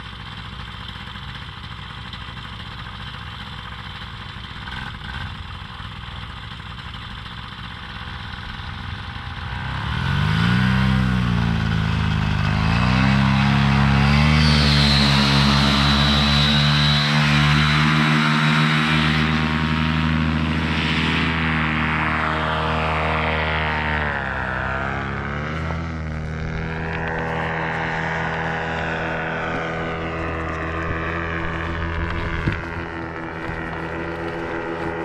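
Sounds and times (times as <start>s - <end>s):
paramotor engine and propeller: 0.0s - 35.0s.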